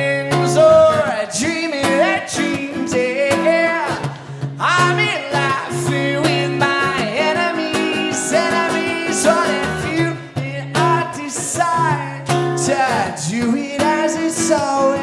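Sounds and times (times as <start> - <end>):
guitar: 0.0 - 15.0
live rock music: 0.0 - 15.0
person singing: 0.0 - 15.0.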